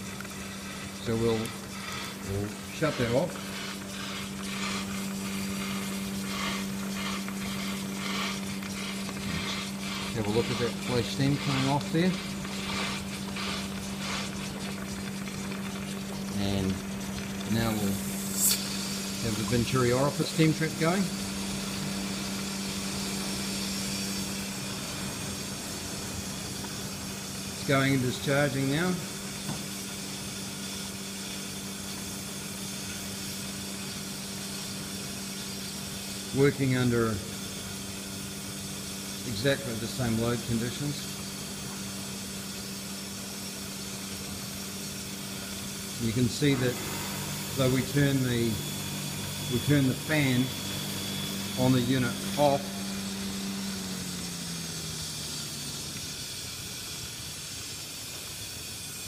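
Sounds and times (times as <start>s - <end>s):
fan humming: 0.0s - 59.0s
steam hissing: 0.0s - 59.0s.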